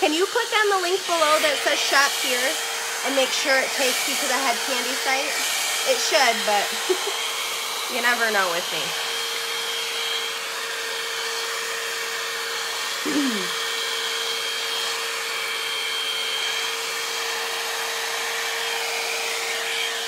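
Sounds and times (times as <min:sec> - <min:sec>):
hot air brush blowing: 0:00.0 - 0:20.0.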